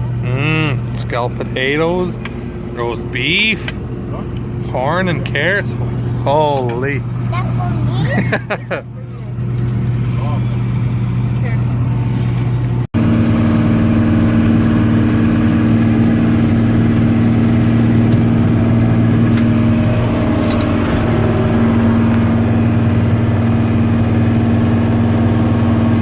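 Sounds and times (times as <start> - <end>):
combine harvester engine hum: 0.0 - 26.0.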